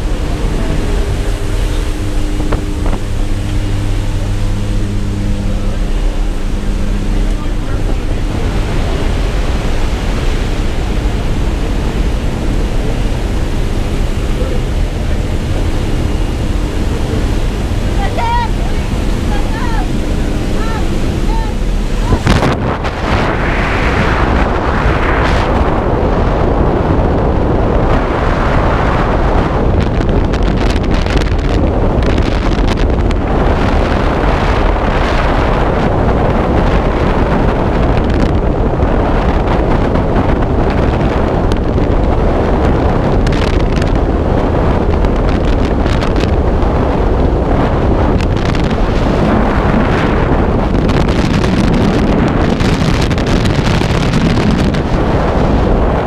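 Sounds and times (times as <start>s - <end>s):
wind roaring over microphone: 0.0s - 56.0s.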